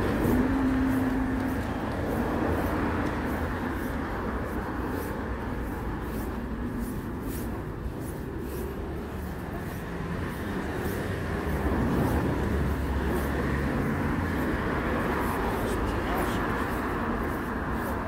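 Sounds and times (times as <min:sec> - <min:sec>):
faint footsteps: 0:00.0 - 0:18.0
traffic rumble: 0:00.0 - 0:18.0.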